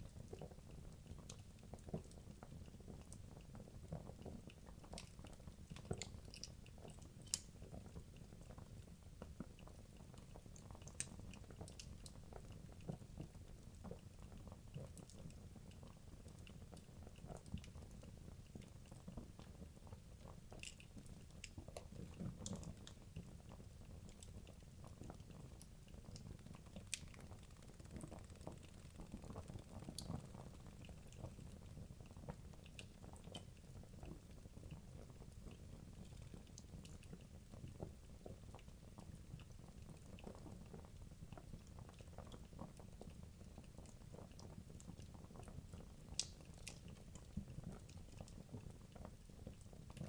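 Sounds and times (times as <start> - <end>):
wood crackling and popping: 0.1 - 50.0.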